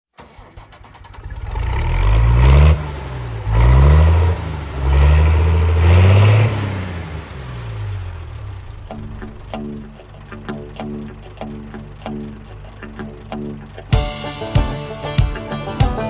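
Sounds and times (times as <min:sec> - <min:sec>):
large engine revving: 0:00.6 - 0:13.9.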